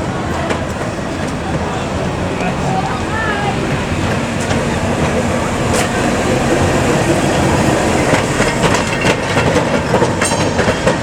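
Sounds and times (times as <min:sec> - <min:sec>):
tram rumble: 0:00.0 - 0:11.0
wheels clicking over rail joints: 0:00.0 - 0:11.0.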